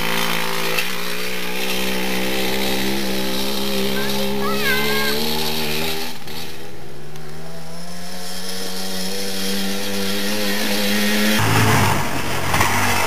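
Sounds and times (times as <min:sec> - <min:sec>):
two-stroke dirt bike engine: 0:00.0 - 0:13.0.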